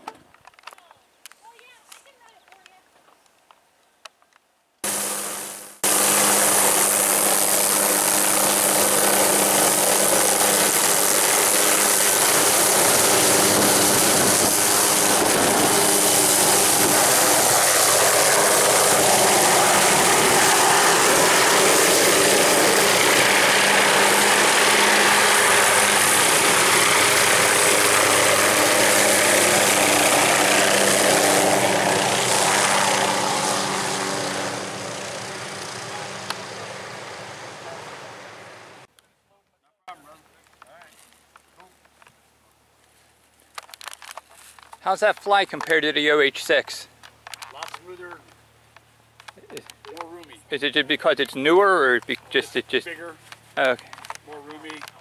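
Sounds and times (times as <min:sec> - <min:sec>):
helicopter turbine and rotor: 0:04.8 - 0:38.9, 0:43.6 - 0:55.0.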